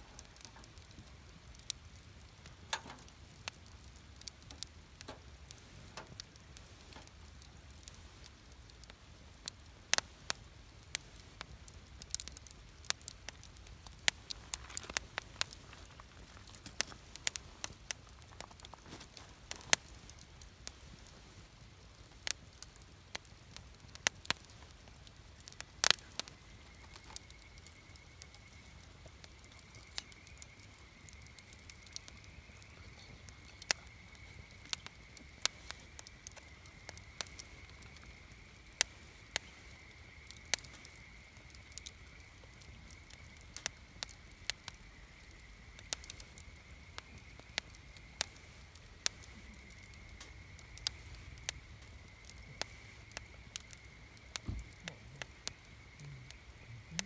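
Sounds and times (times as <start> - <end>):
campfire crackling: 0.0 - 57.0
fire pops and snaps: 0.0 - 57.0.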